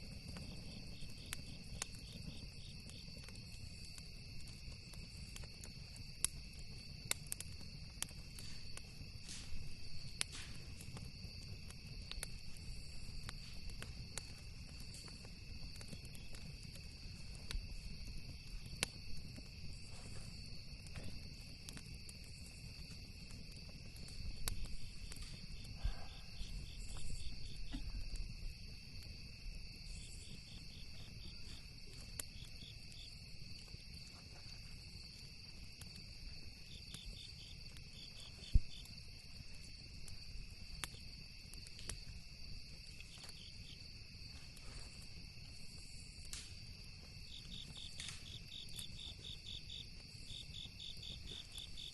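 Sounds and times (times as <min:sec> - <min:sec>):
campfire crackling and popping: 0:00.0 - 0:51.9
crickets chirping: 0:00.0 - 0:51.9.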